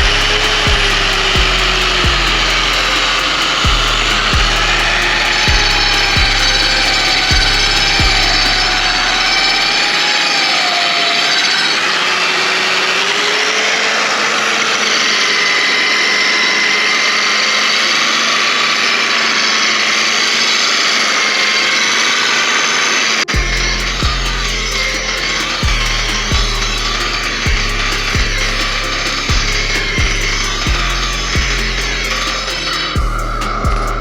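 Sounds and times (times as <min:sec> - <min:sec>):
sander motor whine: 0:00.0 - 0:34.0
wall sander rasping: 0:00.0 - 0:34.0.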